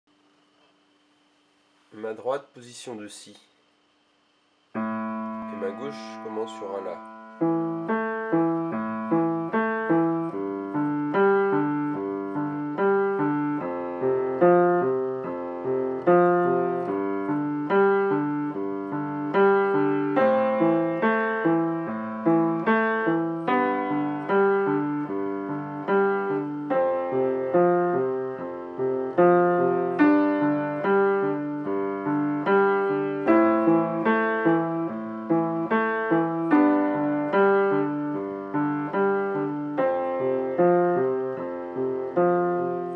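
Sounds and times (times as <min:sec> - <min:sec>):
upright piano playing: 0:04.8 - 0:42.9.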